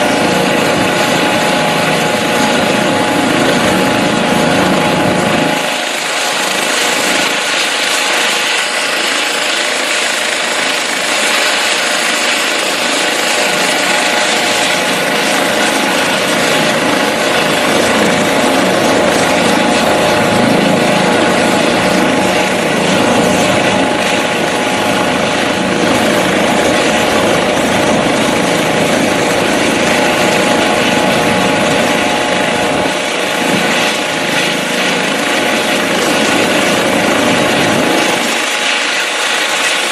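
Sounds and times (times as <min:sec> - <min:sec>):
helicopter engine whine: 0:00.0 - 0:39.9
helicopter rotor: 0:00.0 - 0:39.9.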